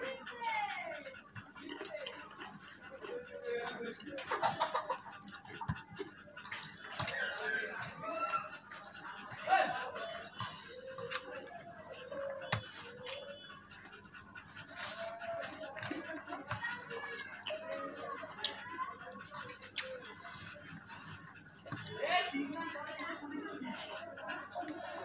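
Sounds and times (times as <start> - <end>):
wet squishing of food by hand: 1.3 - 25.0.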